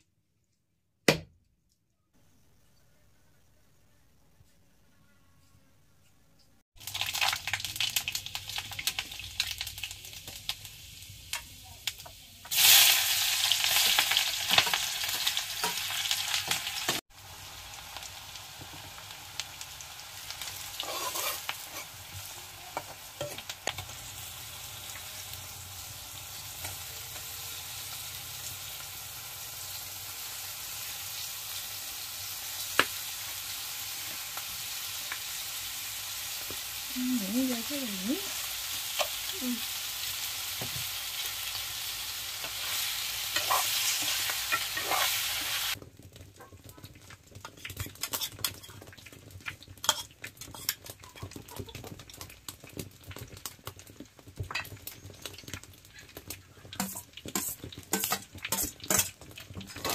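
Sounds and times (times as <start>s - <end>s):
food frying in hot oil: 6.8s - 59.9s.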